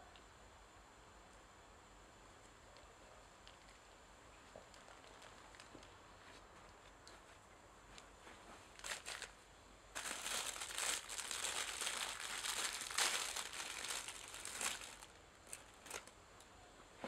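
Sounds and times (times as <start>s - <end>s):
crinkling rustling: 2.8s - 16.5s.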